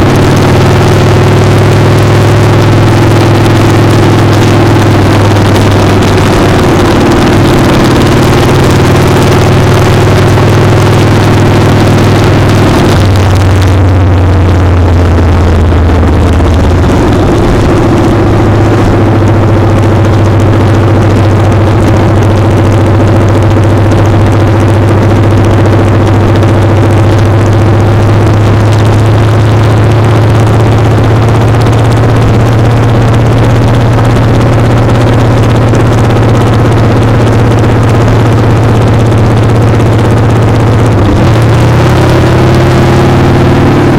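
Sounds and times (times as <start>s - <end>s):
motorcycle engine running: 0.0s - 43.9s
wind rush on microphone: 0.0s - 43.9s.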